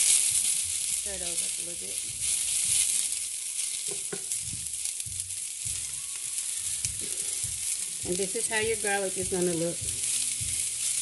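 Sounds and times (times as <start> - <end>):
onion sizzling in skillet: 0.0 - 11.0
spatula knocking skillet: 0.0 - 11.0.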